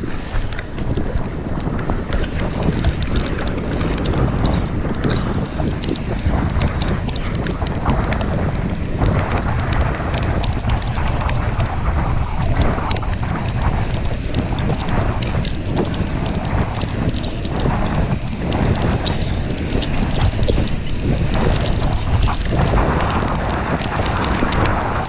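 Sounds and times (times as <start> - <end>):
bike clicks and rattles: 0.0 - 25.0
wind buffeting microphone: 0.0 - 25.0.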